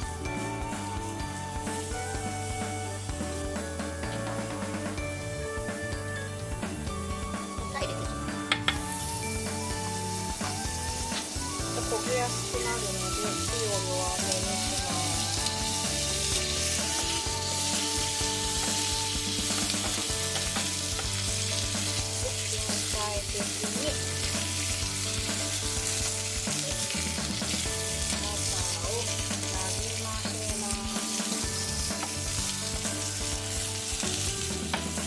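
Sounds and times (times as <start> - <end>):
corn sizzling in a frying pan: 0.0 - 35.0.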